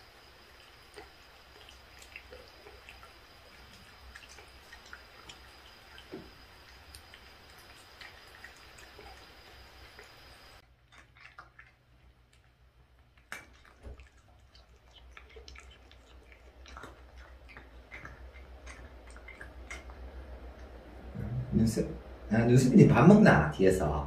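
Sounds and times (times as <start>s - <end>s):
cats chewing and licking: 0.0s - 21.9s.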